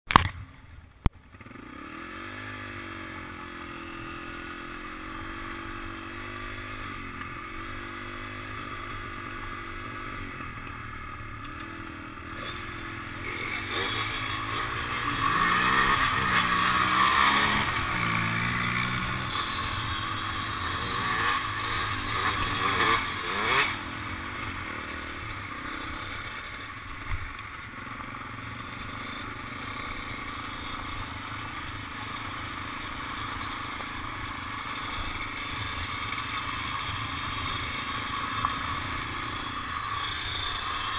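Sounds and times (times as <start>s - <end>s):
dirt bike engine running: 0.1s - 40.9s
quad engine passing: 1.2s - 40.9s.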